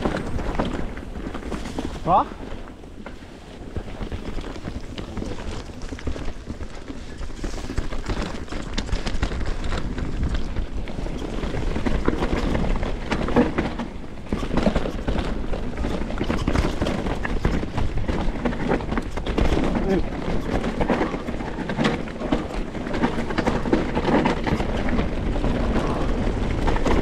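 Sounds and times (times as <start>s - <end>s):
mountain bike clattering: 0.0s - 27.0s
wind rumble on microphone: 0.0s - 27.0s.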